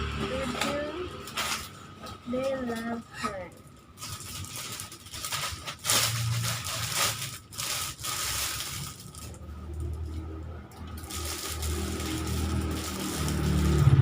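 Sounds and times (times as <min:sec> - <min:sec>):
plastic wrappers crackling: 0:00.3 - 0:14.0.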